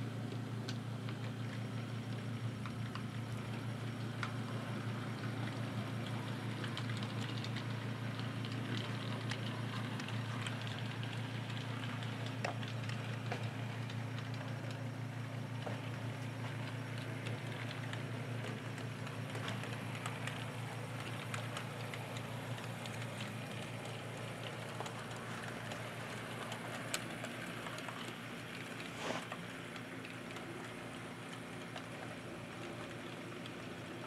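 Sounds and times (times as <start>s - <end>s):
constant low hum: 0.0s - 34.0s.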